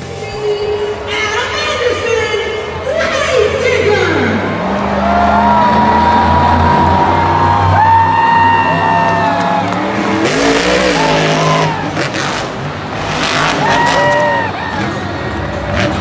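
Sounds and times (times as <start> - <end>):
monster truck engines revving: 0.0 - 16.0.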